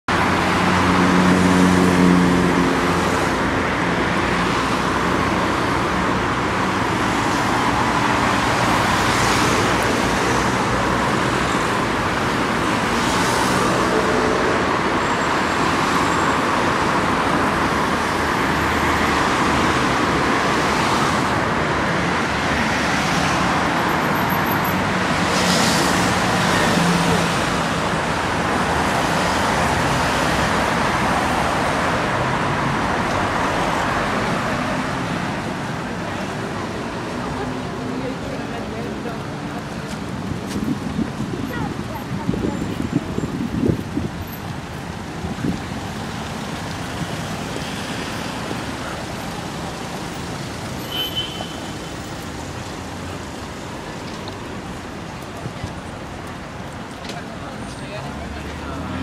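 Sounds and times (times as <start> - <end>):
road traffic passing: 0.1 - 59.0.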